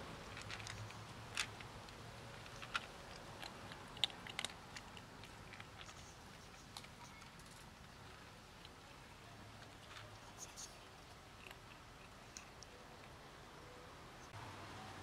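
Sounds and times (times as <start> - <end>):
kitten crunching dry kibble: 0.0 - 13.1.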